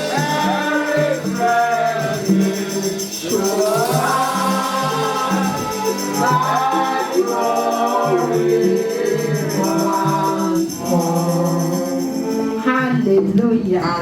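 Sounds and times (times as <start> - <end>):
choir and congregation singing: 0.0 - 12.7
tambourine shaken in a beat: 0.0 - 13.6.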